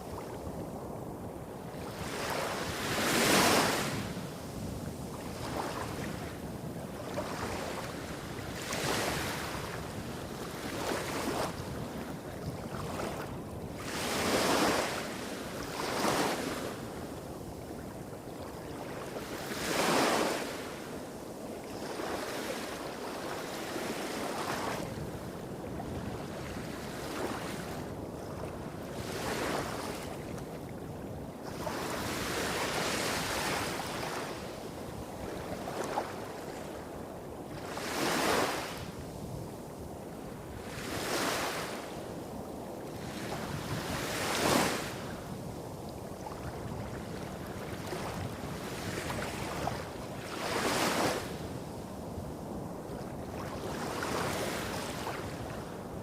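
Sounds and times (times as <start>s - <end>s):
small waves washing on beach: 0.0s - 56.0s.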